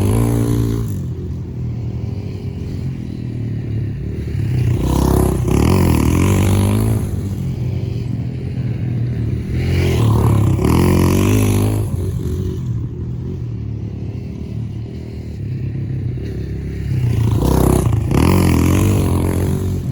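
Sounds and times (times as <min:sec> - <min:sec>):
pit bike engine revving: 0:00.0 - 0:19.9.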